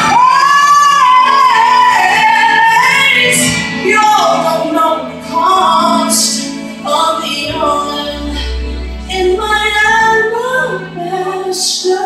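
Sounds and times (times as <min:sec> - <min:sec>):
instrumental backing: 0:00.0 - 0:12.0
woman singing gospel ballad: 0:00.0 - 0:12.0.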